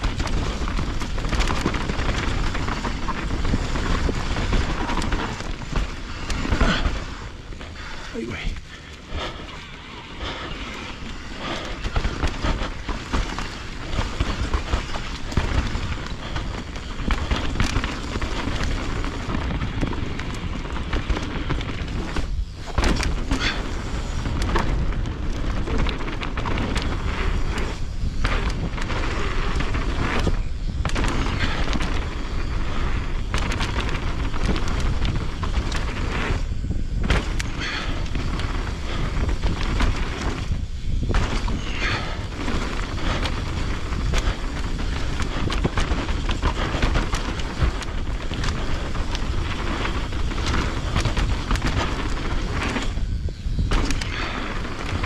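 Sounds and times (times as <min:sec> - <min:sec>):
mountain bike rattling on dirt trail: 0:00.0 - 0:55.0.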